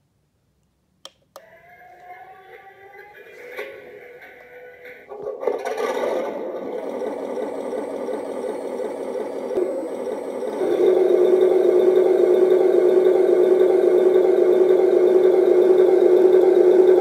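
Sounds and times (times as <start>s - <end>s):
toy drive whirring and rattling: 1.4s - 17.0s
simulated tank engine from speaker: 1.9s - 17.0s.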